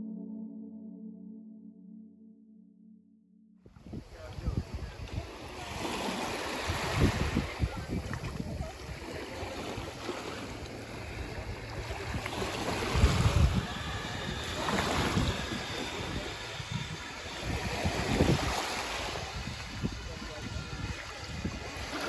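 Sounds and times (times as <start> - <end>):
model boat motor whine: 3.7 - 22.0
wind buffeting microphone: 3.7 - 22.0
small waves lapping: 4.0 - 22.0.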